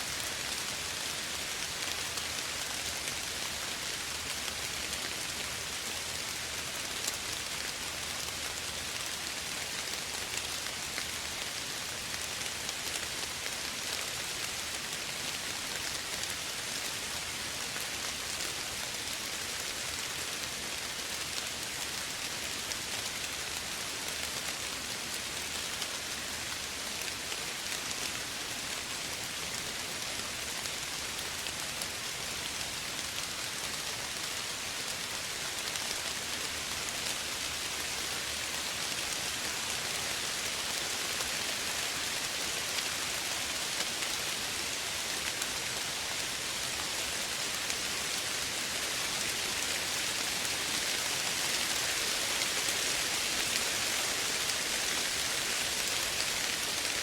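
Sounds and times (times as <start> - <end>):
soft rain falling: 0.0 - 57.0.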